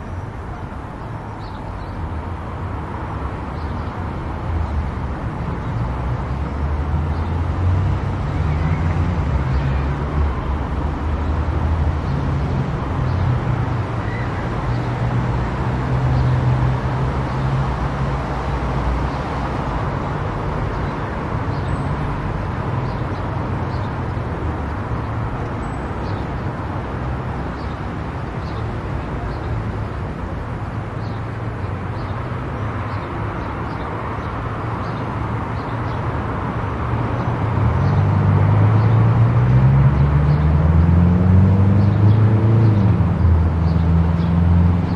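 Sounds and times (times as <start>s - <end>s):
road and tyre noise: 0.0s - 44.9s.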